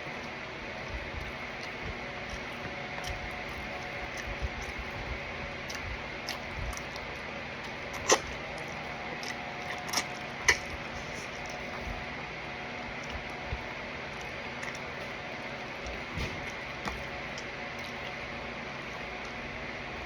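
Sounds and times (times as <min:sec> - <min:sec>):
person chewing: 0:00.0 - 0:12.1, 0:12.8 - 0:19.4.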